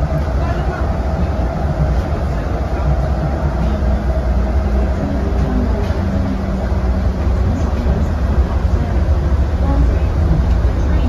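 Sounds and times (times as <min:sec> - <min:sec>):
train rumbling through tunnel: 0:00.0 - 0:11.0.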